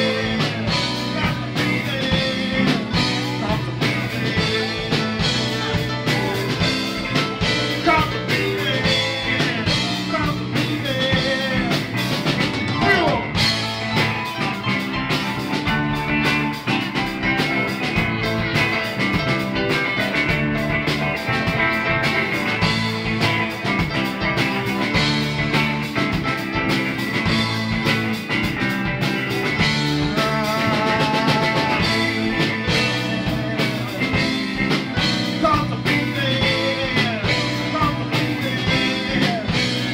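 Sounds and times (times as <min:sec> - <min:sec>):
bass guitar: 0:00.0 - 0:39.9
drum kit: 0:00.0 - 0:39.9
electric guitars: 0:00.0 - 0:39.9
person singing: 0:00.0 - 0:39.9.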